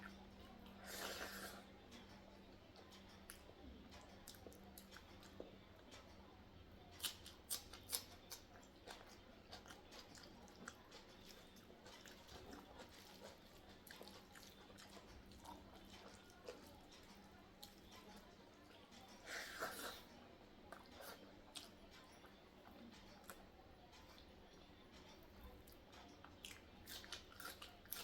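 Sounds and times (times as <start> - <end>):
chewing: 0.0 - 6.1, 6.9 - 28.0.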